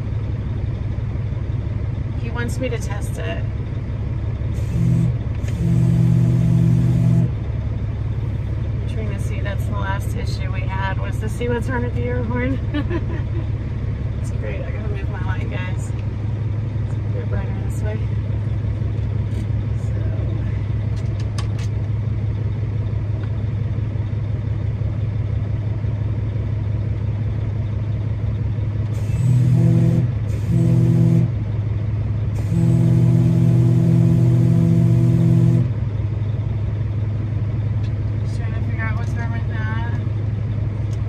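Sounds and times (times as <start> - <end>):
low engine hum: 0.0 - 41.0.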